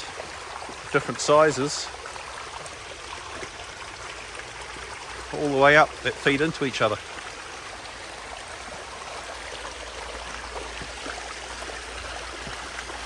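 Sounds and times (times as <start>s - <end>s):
water running down water feature: 0.0s - 13.0s.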